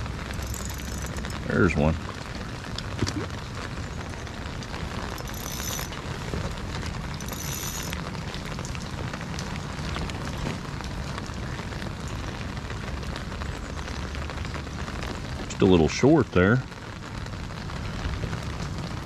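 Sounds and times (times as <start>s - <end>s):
rain pattering on water: 0.0s - 19.0s.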